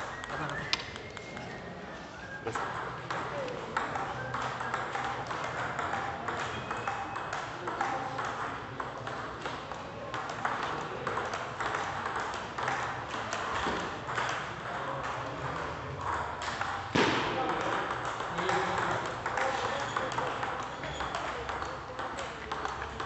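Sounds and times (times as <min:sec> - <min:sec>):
table tennis balls clicking: 0:00.0 - 0:01.7, 0:02.5 - 0:23.0
distant table tennis knocks: 0:02.5 - 0:23.0.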